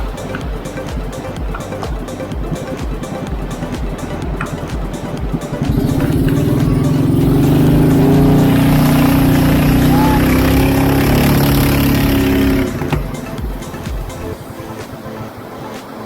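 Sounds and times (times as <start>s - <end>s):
boat engine running: 0.0s - 15.7s.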